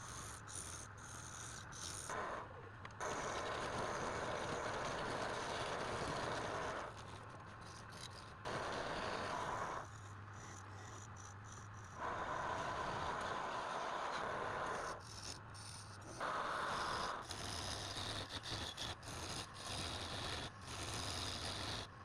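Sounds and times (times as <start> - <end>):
lathe tool scraping spinning wood: 3.0 - 22.0.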